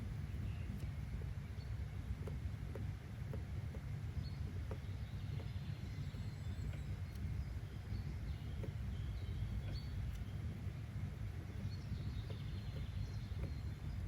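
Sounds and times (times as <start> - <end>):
faint ticks: 0.0 - 14.0.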